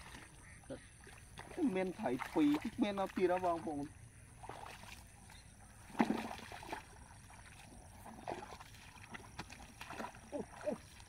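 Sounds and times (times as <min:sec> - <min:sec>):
bare feet splashing through mud: 0:00.0 - 0:11.0.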